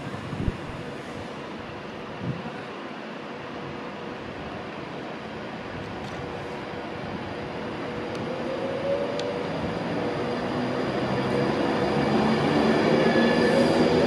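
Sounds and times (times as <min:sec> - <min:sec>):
electric train rumble: 0:00.0 - 0:14.0
train hum of steady tones: 0:00.0 - 0:14.0.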